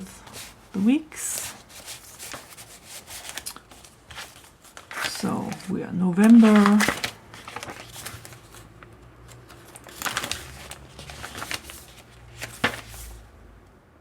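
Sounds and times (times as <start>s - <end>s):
paper pages rustling: 0.0s - 13.3s.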